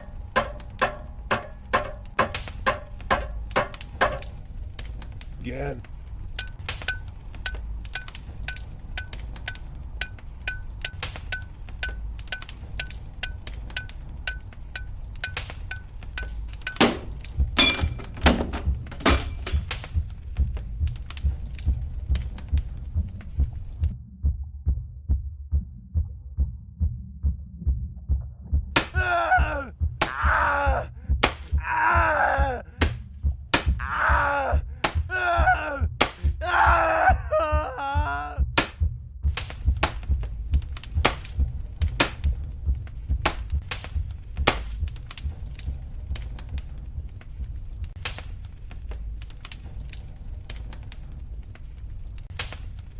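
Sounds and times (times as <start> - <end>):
low steady thumping: 0.0 - 52.2.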